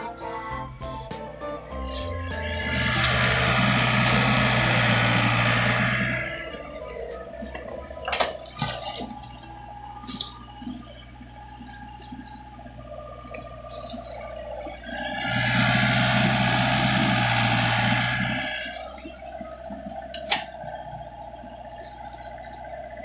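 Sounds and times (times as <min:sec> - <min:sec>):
excavator engine humming: 0:00.0 - 0:23.0.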